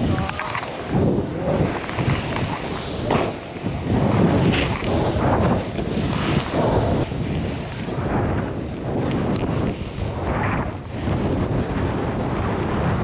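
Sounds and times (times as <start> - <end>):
snowboard sliding on snow: 0.0 - 13.0
wind on microphone: 0.0 - 13.0.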